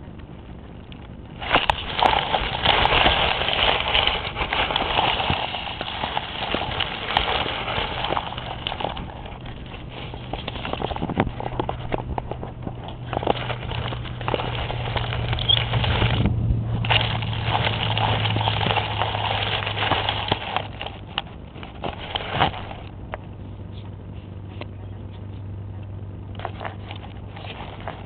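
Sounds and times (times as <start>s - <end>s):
microphone handling noise: 0.0s - 25.5s
grass rustling and crackling: 0.0s - 28.0s
low steady hum: 0.0s - 28.0s.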